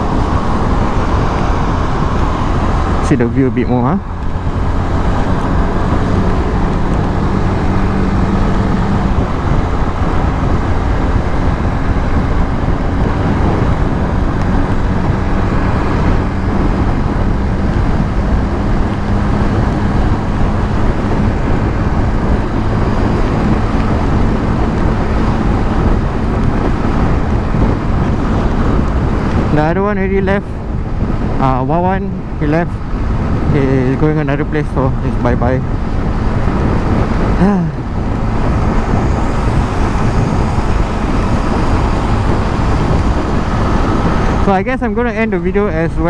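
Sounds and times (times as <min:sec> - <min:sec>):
motorcycle engine drone: 0:00.0 - 0:46.0
road noise: 0:00.0 - 0:46.0
wind noise: 0:00.0 - 0:46.0.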